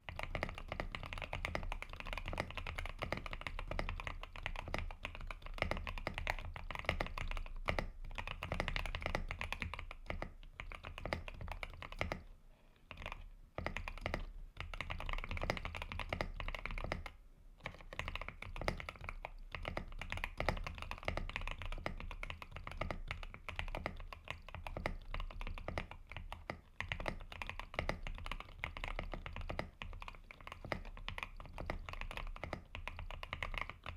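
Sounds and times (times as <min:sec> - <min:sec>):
fast mechanical keyboard typing: 0:00.0 - 0:12.3, 0:12.9 - 0:33.9.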